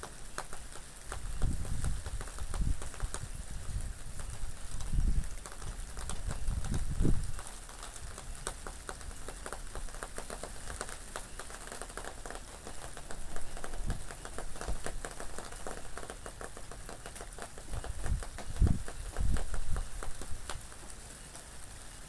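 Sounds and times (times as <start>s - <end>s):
raindrops clicking on a surface: 0.0s - 22.0s.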